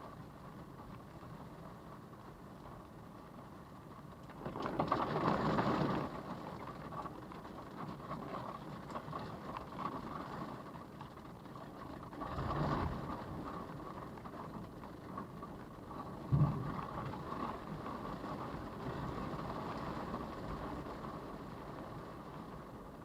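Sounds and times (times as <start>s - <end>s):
storm wind around a car: 0.0s - 23.0s.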